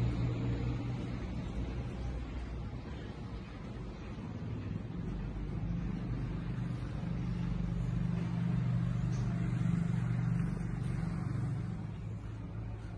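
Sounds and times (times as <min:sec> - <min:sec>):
vehicle engine hum: 0:00.0 - 0:12.9.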